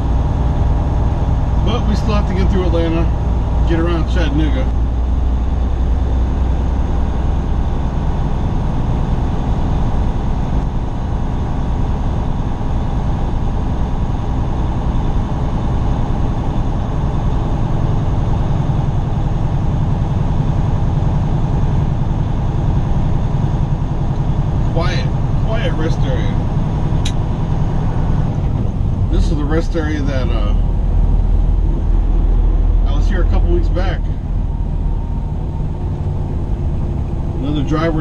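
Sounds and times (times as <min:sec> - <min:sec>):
road noise: 0:00.0 - 0:12.8, 0:16.8 - 0:38.0
truck diesel engine drone: 0:00.0 - 0:38.0.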